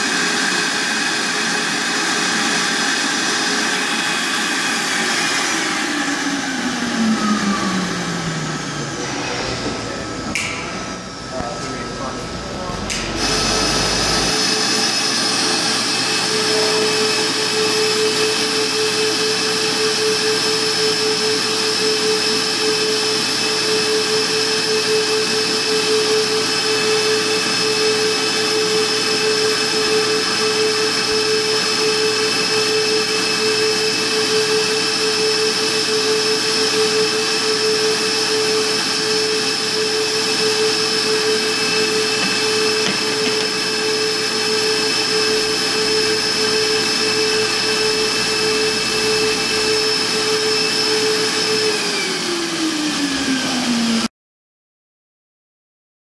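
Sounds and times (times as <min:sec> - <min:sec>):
vacuum blower running: 0:00.0 - 0:54.1.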